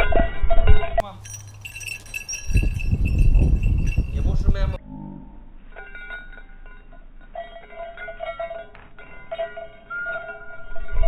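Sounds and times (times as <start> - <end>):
slowed small bells jingling: 1.0 - 4.8, 5.8 - 11.0.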